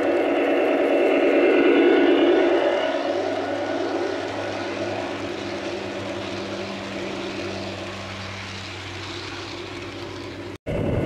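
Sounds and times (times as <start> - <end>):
model train cars rolling: 0.0 - 10.6.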